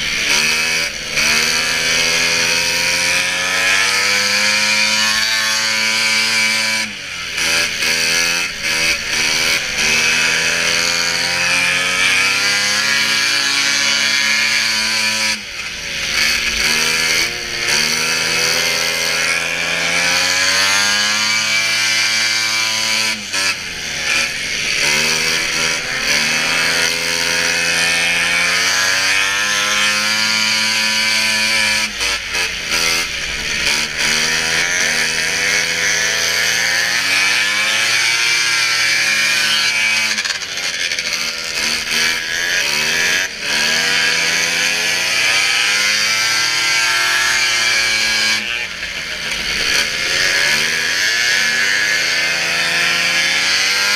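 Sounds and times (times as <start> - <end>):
snowmobile engines revving: 0.0 - 53.9.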